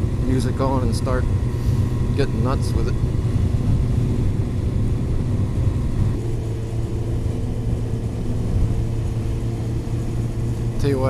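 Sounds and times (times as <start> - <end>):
wind rumble on microphone: 0.0 - 10.9
motorcycle engine running: 0.0 - 11.0.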